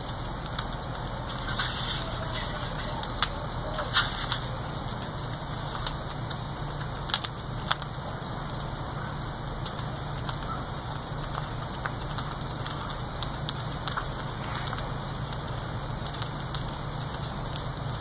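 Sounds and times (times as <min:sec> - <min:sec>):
fire popping and cracking: 0:00.0 - 0:18.0
fire rushing: 0:00.0 - 0:18.0.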